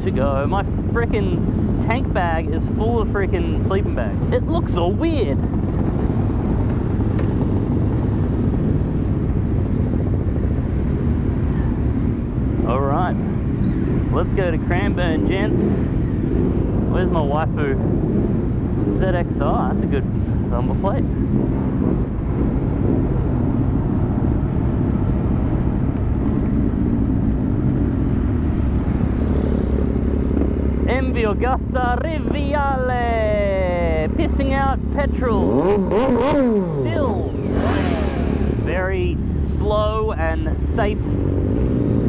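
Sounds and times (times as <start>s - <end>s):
motorcycle engines rumbling: 0.0s - 42.0s.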